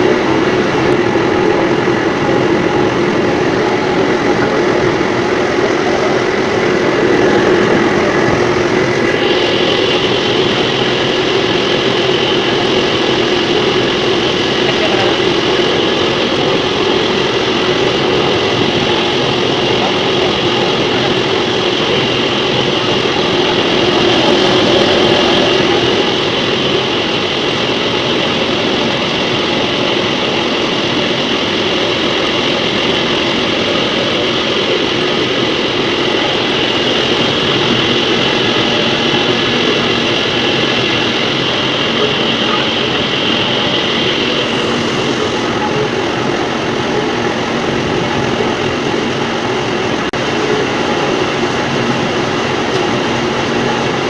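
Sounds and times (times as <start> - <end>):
washing machine mechanical noise: 0.0 - 54.0.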